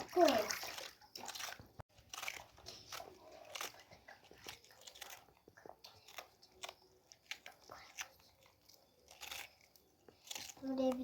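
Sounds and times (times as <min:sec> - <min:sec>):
crunchy food being chewed: 0:00.6 - 0:11.0.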